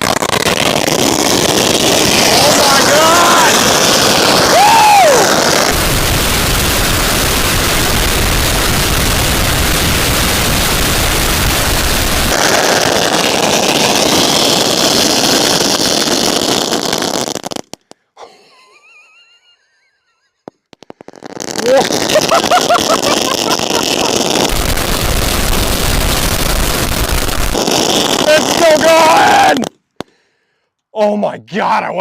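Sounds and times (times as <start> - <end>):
firecrackers crackling: 0.0 - 18.2, 20.4 - 30.1.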